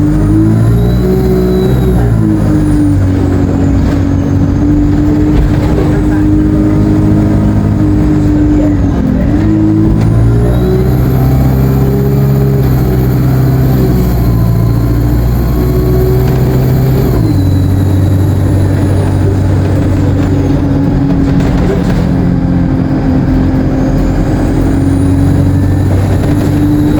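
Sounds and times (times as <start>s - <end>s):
bus engine under way: 0.0s - 26.9s
high turbo whine: 0.0s - 26.9s.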